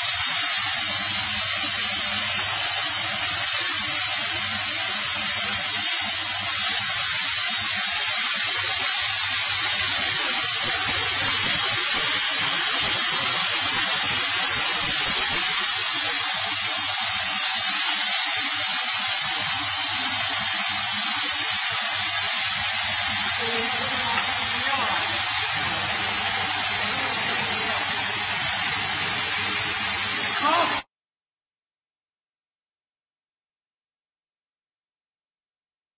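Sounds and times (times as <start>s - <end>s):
steady hiss: 0.0s - 30.8s.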